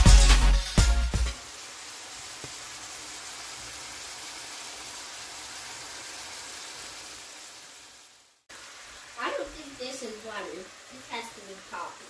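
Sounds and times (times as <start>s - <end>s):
beef sizzling in a pan: 0.5s - 12.0s.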